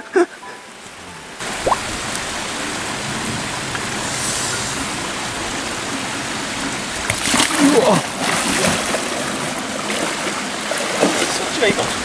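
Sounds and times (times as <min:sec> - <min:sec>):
river water rushing over rocks: 0:01.4 - 0:12.0.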